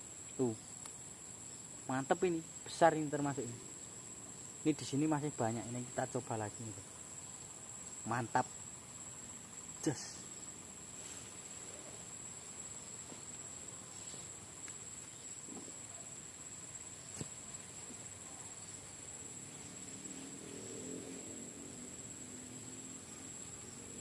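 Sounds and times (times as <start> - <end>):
insect chorus chirring: 0.0 - 24.0.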